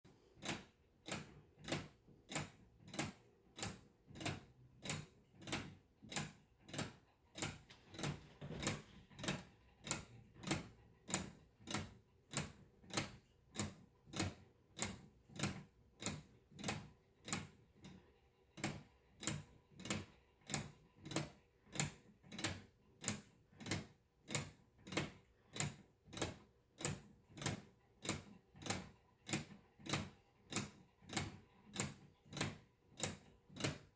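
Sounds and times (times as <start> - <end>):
clock escapement ticking: 0.1 - 33.9.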